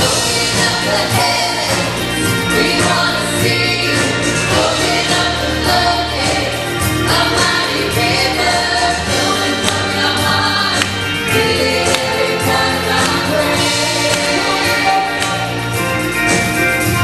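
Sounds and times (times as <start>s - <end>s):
choir singing: 0.0s - 16.1s
gospel band playing: 0.0s - 17.0s.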